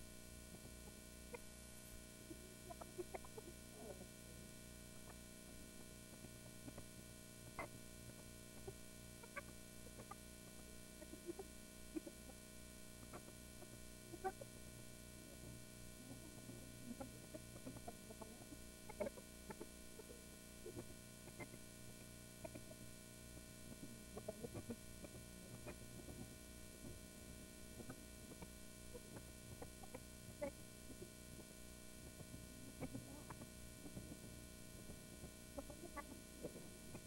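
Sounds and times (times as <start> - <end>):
faint electrical hum: 0.0 - 37.0.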